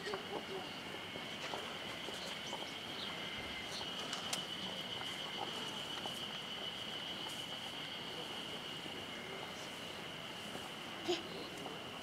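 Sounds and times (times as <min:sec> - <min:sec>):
faint chirps: 0:00.0 - 0:12.0.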